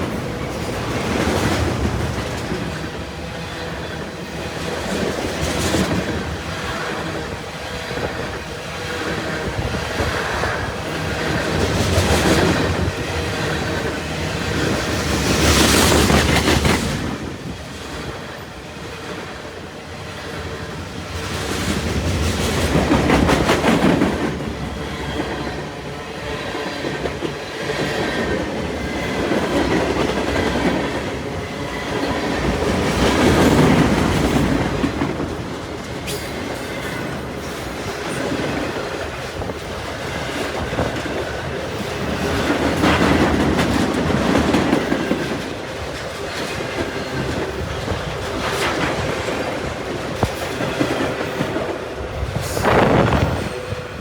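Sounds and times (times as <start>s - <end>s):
train wheels clattering on rail: 0.0s - 54.0s.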